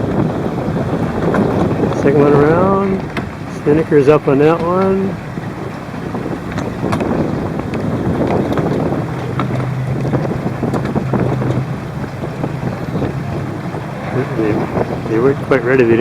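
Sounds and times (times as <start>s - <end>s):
rough water: 0.0s - 16.0s
steady low hum: 0.0s - 16.0s
wind buffeting microphone: 0.0s - 16.0s.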